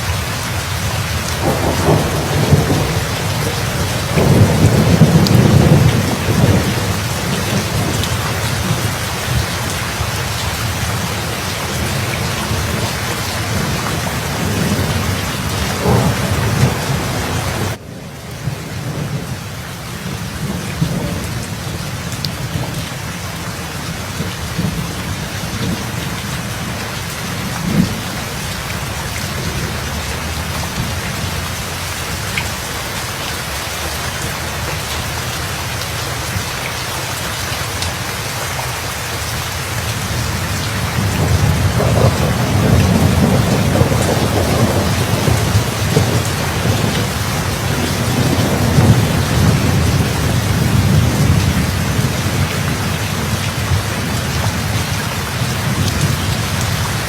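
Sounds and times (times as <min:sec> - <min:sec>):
thunder rumbling: 0:00.0 - 0:32.6, 0:39.9 - 0:57.0
steady rain falling: 0:00.0 - 0:57.0.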